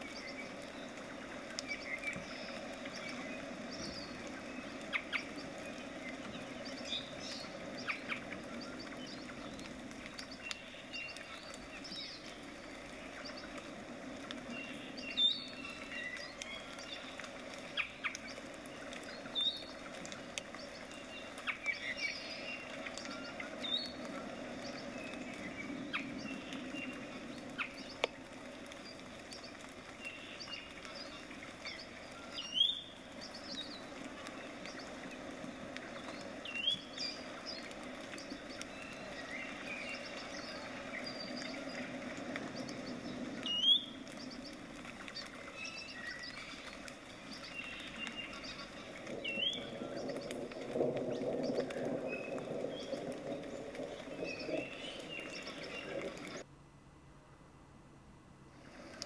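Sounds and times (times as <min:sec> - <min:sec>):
birds chirping: 0:00.0 - 0:56.5.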